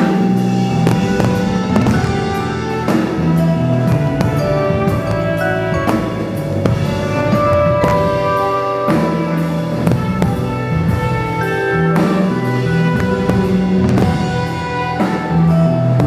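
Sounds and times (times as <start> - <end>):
band playing music: 0.0 - 16.0
drum kit steady beat: 0.0 - 16.0
sustained instrument notes: 0.0 - 16.0.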